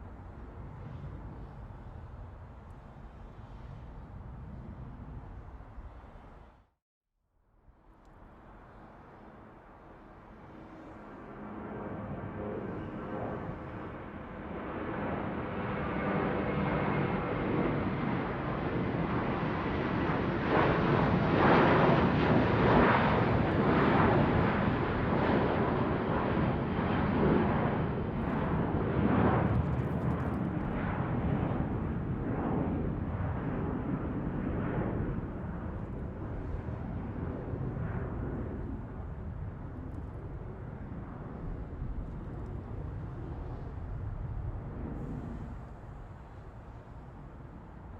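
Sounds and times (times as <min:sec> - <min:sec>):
airplane passing overhead: 0:00.0 - 0:06.7, 0:07.5 - 0:47.9.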